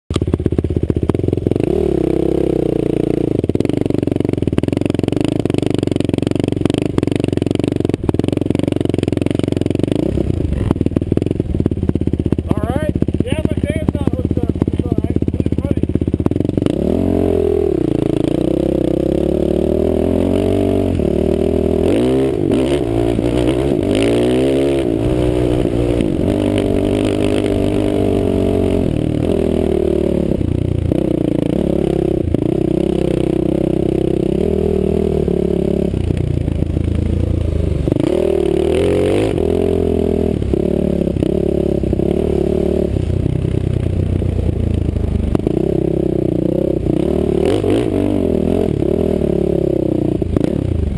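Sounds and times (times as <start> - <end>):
off-road vehicle engine revving: 1.1 - 50.9.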